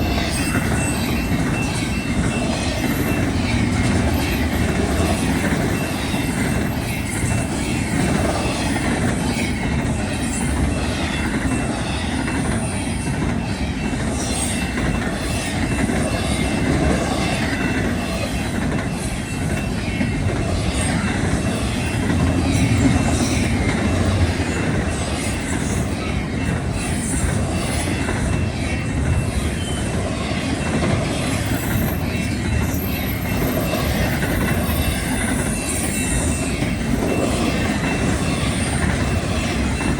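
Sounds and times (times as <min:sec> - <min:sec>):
freight train rumbling past: 0:00.0 - 0:39.9
high wheel squeals: 0:00.0 - 0:39.9.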